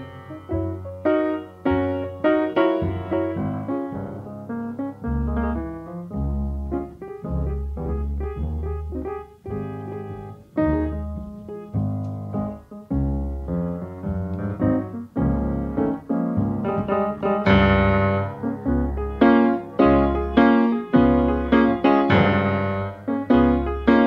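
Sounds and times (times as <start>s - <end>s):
solo jazz piano: 0.0s - 24.0s.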